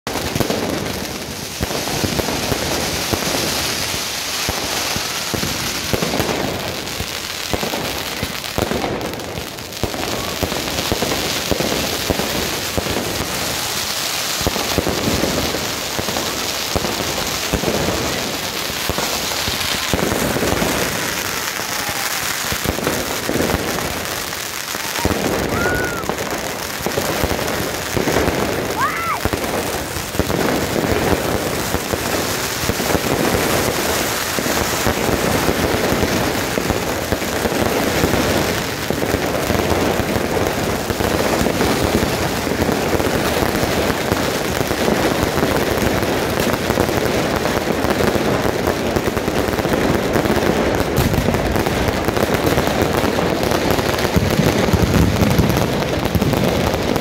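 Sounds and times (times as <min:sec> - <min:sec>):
firecrackers and fireworks banging: 0:00.0 - 0:57.0.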